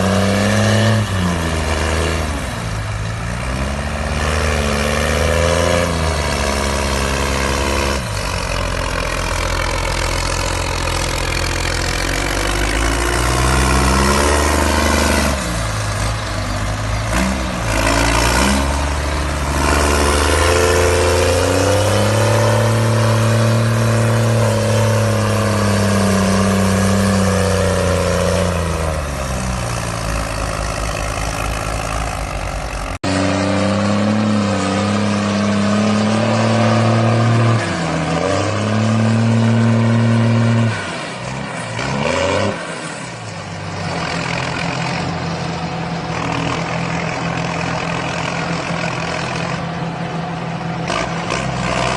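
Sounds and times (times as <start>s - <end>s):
vehicle engine revving: 0.0s - 51.9s.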